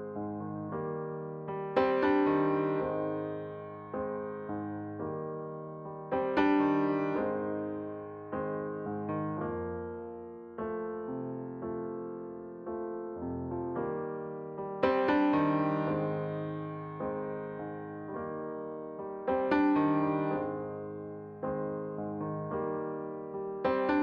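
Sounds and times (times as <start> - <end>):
slow piano chords: 0.0 - 24.0.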